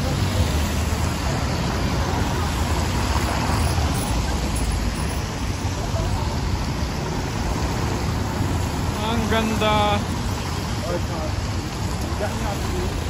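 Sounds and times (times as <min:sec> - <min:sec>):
traffic on wet road: 0:00.0 - 0:13.0.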